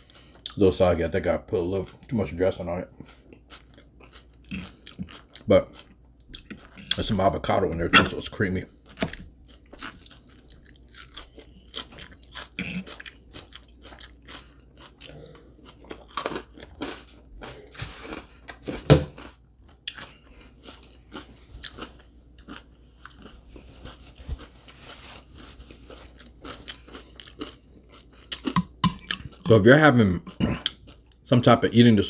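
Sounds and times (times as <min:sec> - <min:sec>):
chewing and crunching salad: 0:00.0 - 0:31.6.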